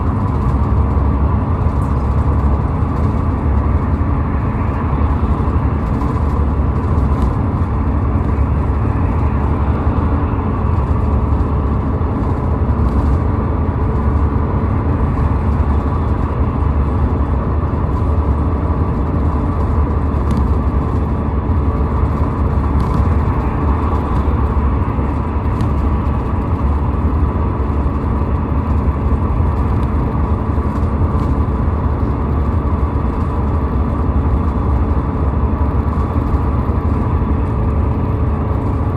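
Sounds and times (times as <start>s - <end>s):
car road noise: 0.0s - 38.9s.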